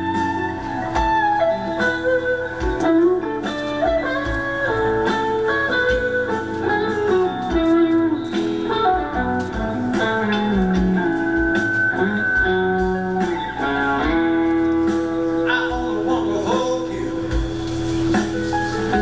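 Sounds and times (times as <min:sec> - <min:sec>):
guitar tune: 0:00.0 - 0:19.0.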